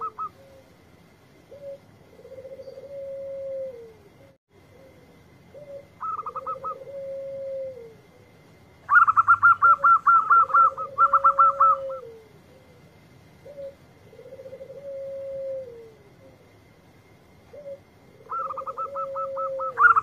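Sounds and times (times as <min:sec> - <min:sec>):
dove cooing: 0:00.0 - 0:00.8, 0:01.4 - 0:20.0.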